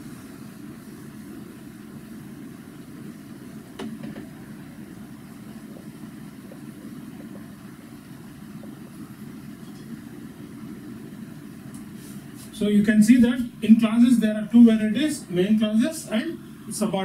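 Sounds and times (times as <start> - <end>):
low machinery rumble: 0.0 - 17.0.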